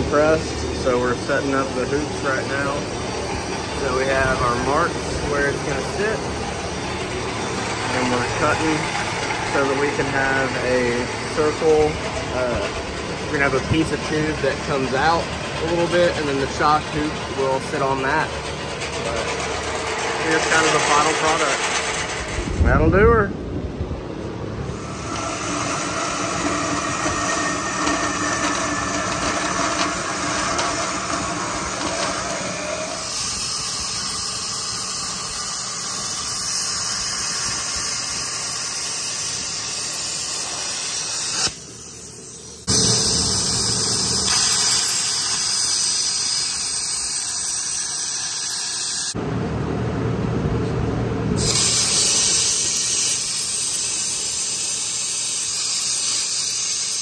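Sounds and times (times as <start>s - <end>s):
power tool whine: 0.0s - 22.6s, 24.6s - 49.2s
loud hissing: 0.0s - 23.3s, 24.6s - 49.2s, 51.4s - 57.0s.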